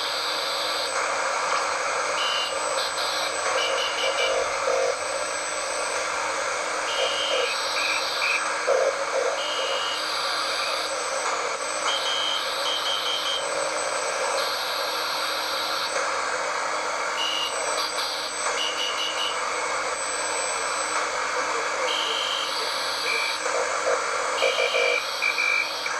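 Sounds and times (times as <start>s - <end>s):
shortwave radio static: 0.0s - 25.9s.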